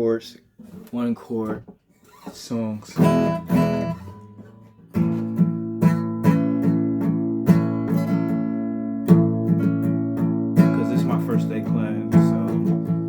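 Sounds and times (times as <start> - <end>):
acoustic guitar strumming: 2.1 - 13.0.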